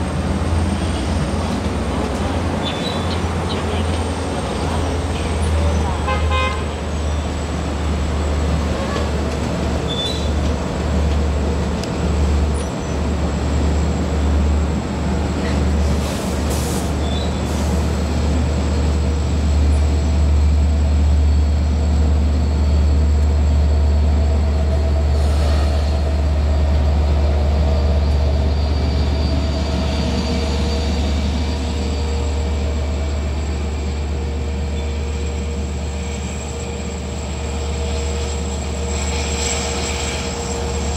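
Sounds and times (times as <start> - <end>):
diesel train drone: 0.0 - 40.9.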